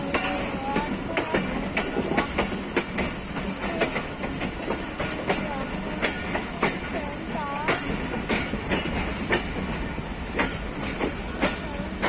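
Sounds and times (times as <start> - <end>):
train rumble: 0.0 - 12.0
wheels clacking over rail joints: 0.0 - 12.0.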